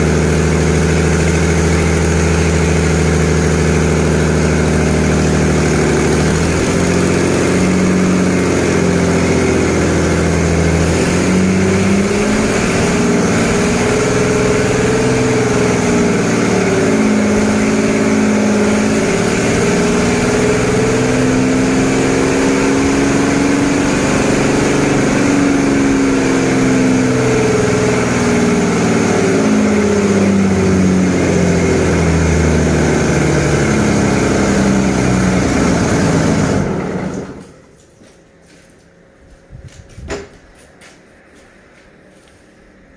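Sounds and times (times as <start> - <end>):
diesel engine running: 0.0 - 37.7.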